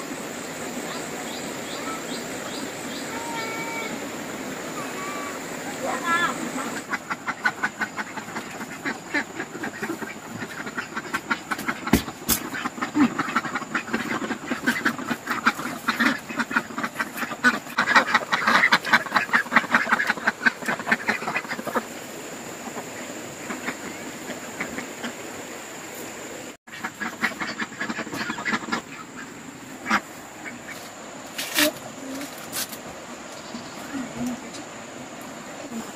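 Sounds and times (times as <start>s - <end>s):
ducks quacking: 0.4s - 25.2s, 26.7s - 34.7s.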